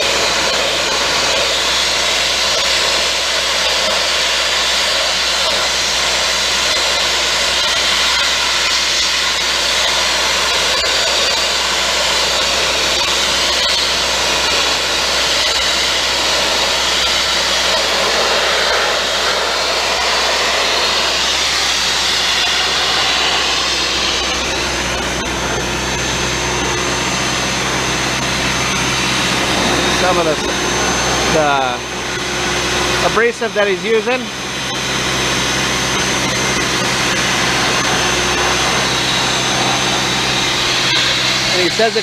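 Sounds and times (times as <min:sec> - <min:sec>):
sandblasting nozzle hissing: 0:00.0 - 0:42.0
steady hum with high whine: 0:00.0 - 0:42.0.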